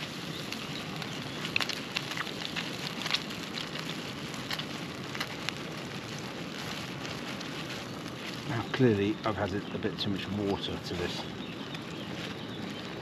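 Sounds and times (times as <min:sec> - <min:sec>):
batter sizzling in a frying pan: 0:00.0 - 0:13.0.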